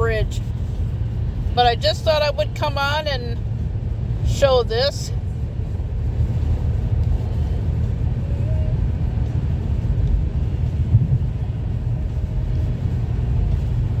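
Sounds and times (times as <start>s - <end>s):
road vehicle rumble: 0.0s - 14.0s.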